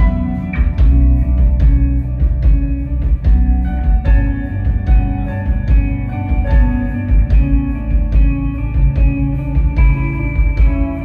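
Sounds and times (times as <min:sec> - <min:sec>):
live post-rock band: 0:00.0 - 0:11.0.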